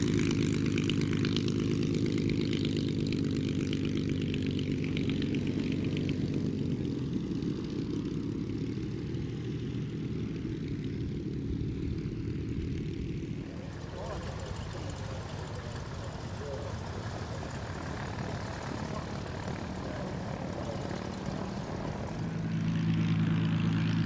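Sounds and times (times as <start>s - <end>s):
propeller plane engine in flight: 0.0s - 24.0s.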